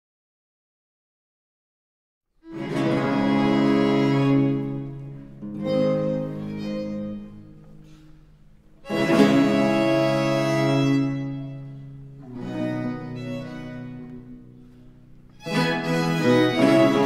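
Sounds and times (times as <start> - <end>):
baroque string ensemble chords: 2.4 - 17.0.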